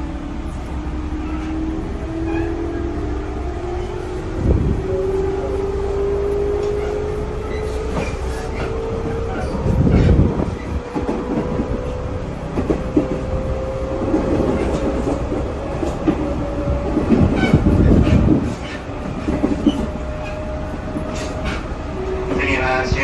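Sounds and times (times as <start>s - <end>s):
train wheels rumbling on rail: 0.0s - 23.0s
rail-joint clacks: 0.4s - 23.0s.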